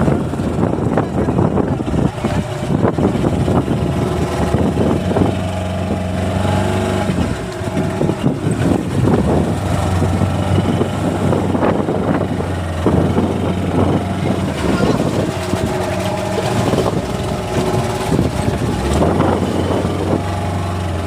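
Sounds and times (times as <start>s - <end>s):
engine idling: 0.0s - 21.0s
rough noise: 0.0s - 21.0s.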